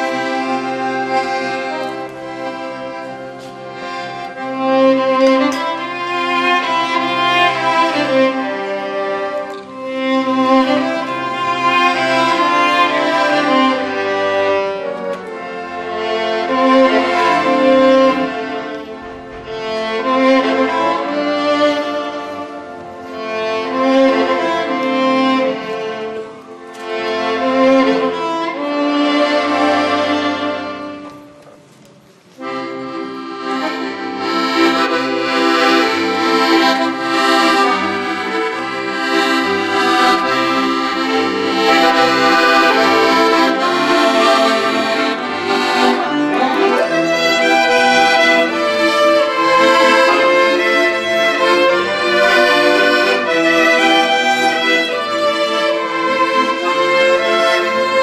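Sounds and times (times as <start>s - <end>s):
accordion held notes: 0.0s - 58.0s
violin melody: 0.0s - 58.0s.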